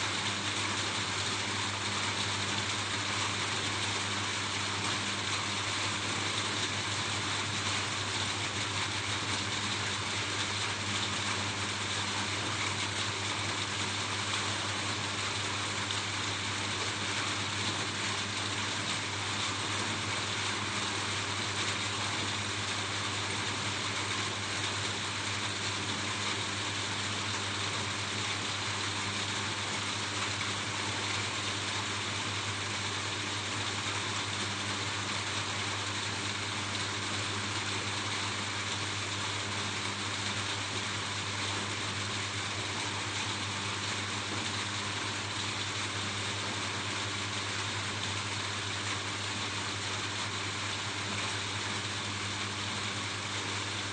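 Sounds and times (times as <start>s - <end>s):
rain falling on a roof: 0.2s - 53.9s.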